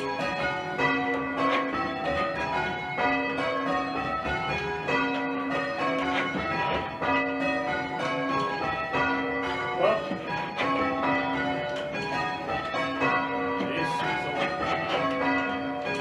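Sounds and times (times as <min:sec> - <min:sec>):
church bells ringing in changes: 0:00.0 - 0:16.0.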